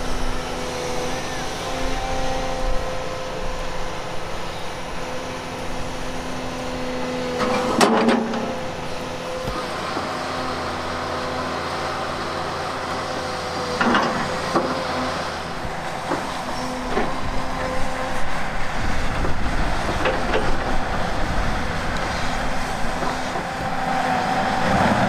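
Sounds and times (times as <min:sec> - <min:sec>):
excavator engine and hydraulics droning: 0:00.0 - 0:25.0.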